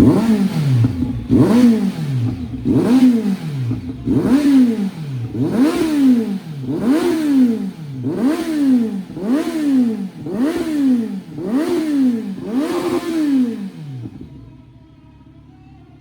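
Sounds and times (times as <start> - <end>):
motorcycle engine throttle blips: 0.0 - 16.0.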